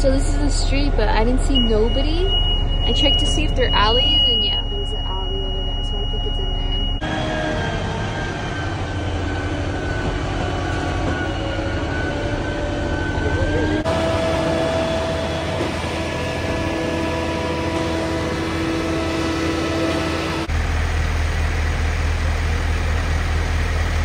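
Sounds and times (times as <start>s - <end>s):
diesel engine running: 0.0s - 24.0s
whining tones: 0.0s - 24.0s.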